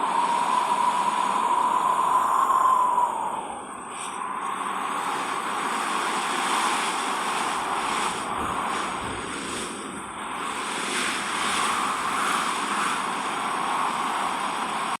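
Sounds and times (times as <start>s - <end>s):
rushing wind: 0.0s - 15.0s.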